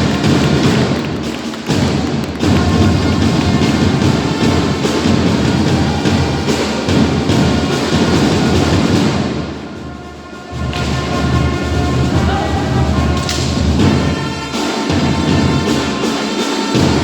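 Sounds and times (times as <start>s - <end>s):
orchestral music with heavy drums: 0.0s - 17.0s.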